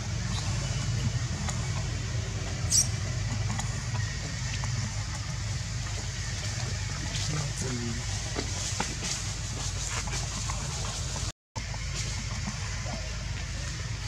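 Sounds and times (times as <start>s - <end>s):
engine rumble: 0.0s - 14.0s.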